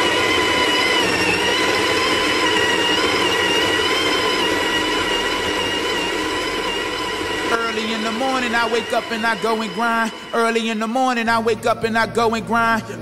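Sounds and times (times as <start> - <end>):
high whining tones: 0.0 - 13.0
machine whirring: 0.0 - 13.0.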